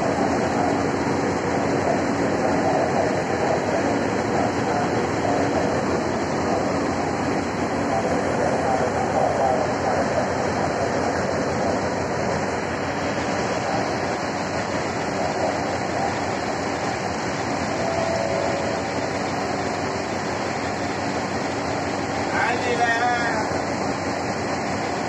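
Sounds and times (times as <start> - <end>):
faint hum: 0.0 - 22.6
locomotive engine running: 0.0 - 25.0.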